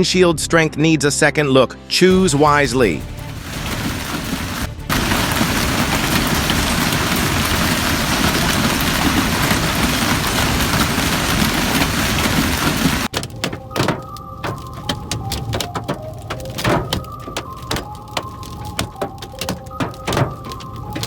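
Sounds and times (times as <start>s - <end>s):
hail pelting down: 2.1s - 21.0s.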